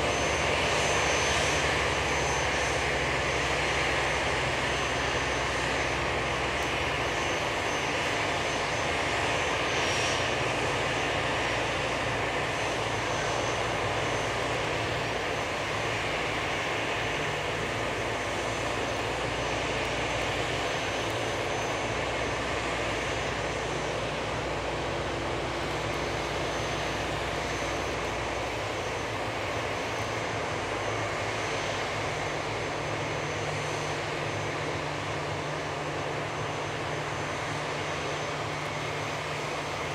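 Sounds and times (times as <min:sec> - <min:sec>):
aircraft whine and rush: 0:00.0 - 0:39.9.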